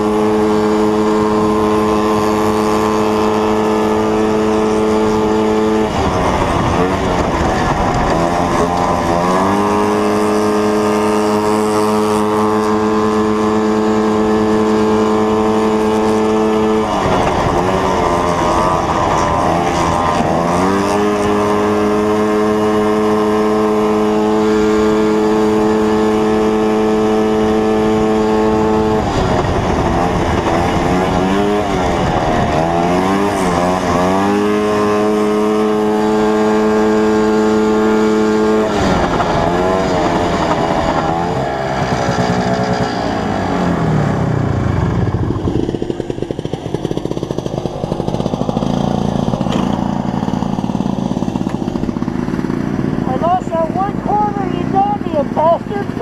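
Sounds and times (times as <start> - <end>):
racing snowmobile engine: 0.0 - 56.0.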